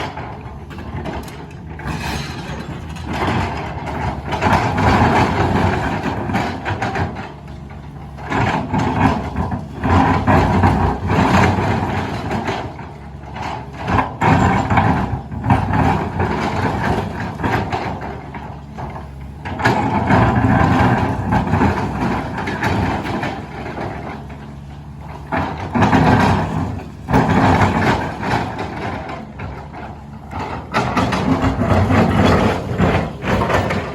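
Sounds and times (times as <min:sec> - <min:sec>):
excavator diesel engine under load: 0:00.0 - 0:33.9.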